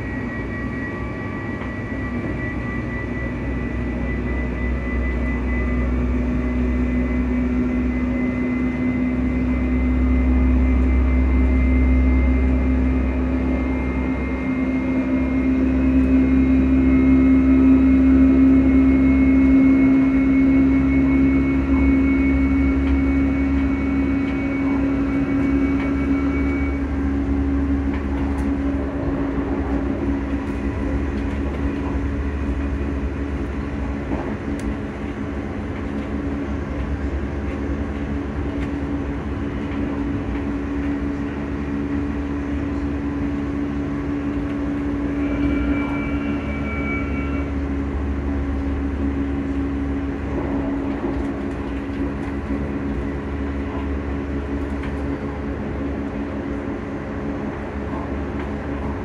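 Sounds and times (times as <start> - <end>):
cooling fans humming: 0.0 - 59.0
high whine: 0.0 - 59.0
train rumbling on rails: 0.0 - 59.0.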